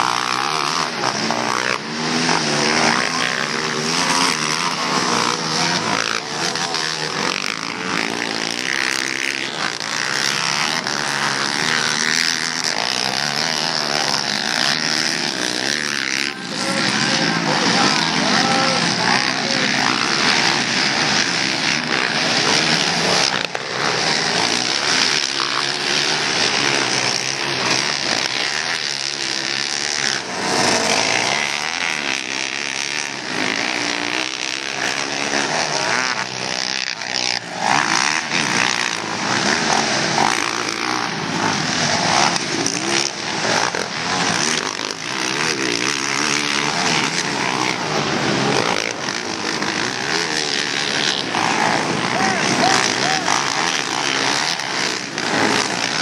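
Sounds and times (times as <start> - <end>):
quad engines revving hard: 0.0 - 56.0.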